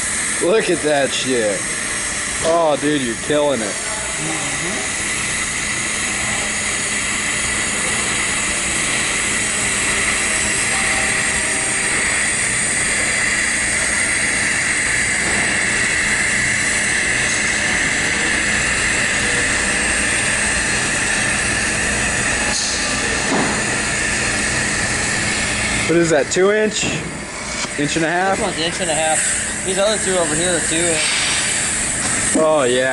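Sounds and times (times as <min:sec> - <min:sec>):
welding arc hissing: 0:00.0 - 0:32.9.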